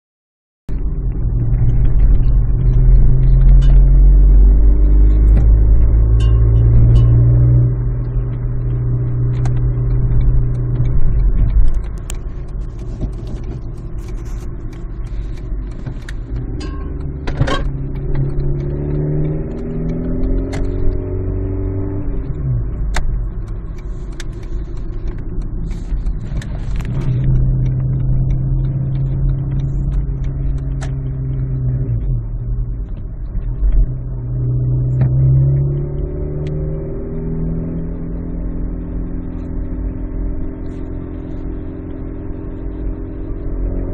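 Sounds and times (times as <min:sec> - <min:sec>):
vehicle engine low rumble: 0:00.7 - 0:43.9.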